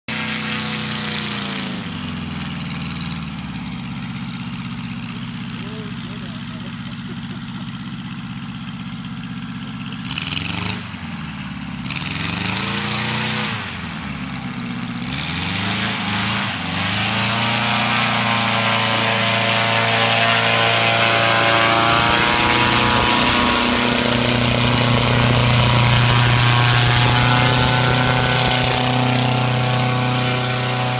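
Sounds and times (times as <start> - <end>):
small aircraft engine revving: 0.1 - 30.9.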